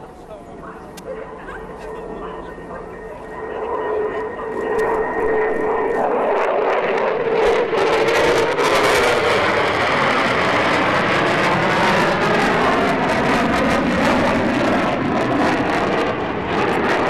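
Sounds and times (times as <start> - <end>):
fighter jet engines whining: 0.0 - 17.0.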